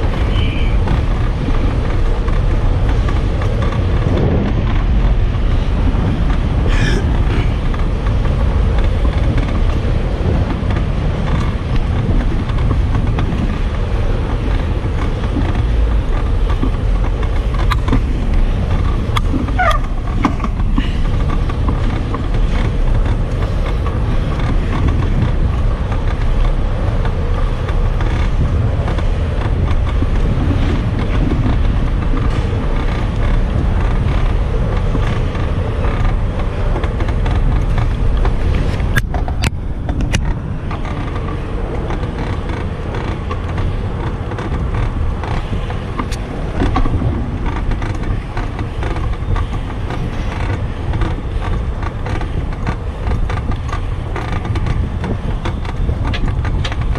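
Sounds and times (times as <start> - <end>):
bicycle creaking and rattling: 0.0 - 56.9
wind rumbling on microphone: 0.0 - 56.9.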